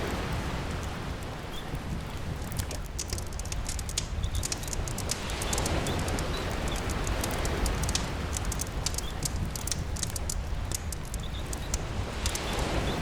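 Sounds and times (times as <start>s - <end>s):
steady rain: 0.0s - 13.0s
surf rumble: 0.0s - 13.0s
wood fire crackling and popping: 0.1s - 13.0s.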